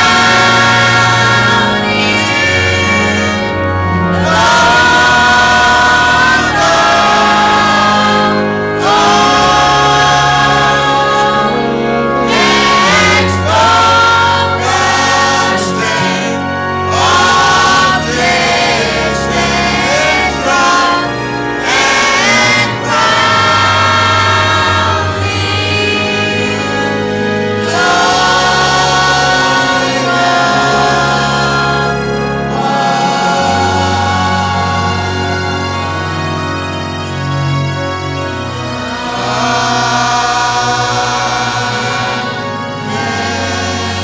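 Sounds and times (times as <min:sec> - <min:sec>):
choir and congregation singing: 0:00.0 - 0:44.0
instrumental accompaniment with bass: 0:00.0 - 0:44.0.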